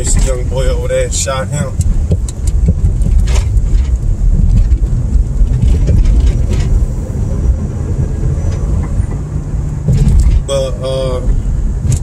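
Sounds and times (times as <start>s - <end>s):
car driving heard from cabin: 0.0s - 12.0s.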